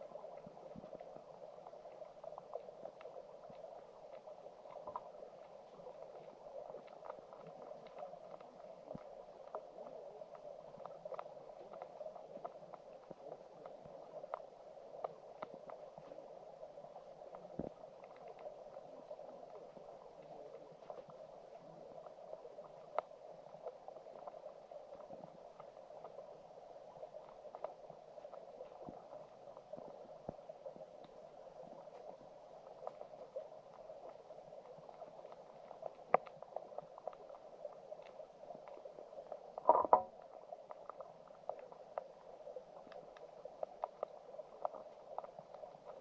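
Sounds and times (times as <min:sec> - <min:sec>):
small underwater clicks: 0:00.0 - 0:46.0
underwater stream rush: 0:00.0 - 0:46.0.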